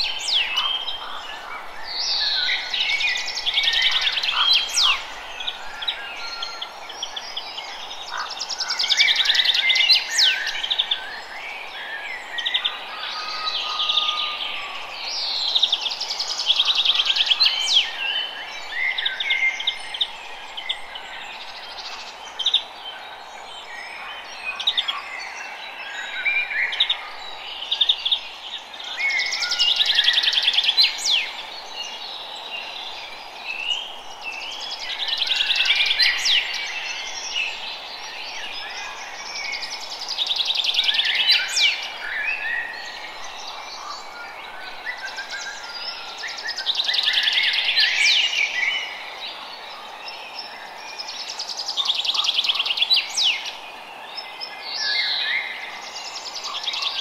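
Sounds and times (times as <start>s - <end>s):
songbirds singing: 0.0s - 57.0s
steady background hiss: 0.0s - 57.0s.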